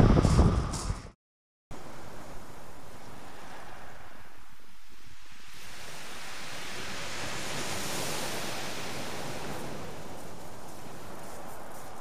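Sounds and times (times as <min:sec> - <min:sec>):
waves washing on shingle beach: 0:01.8 - 0:12.0.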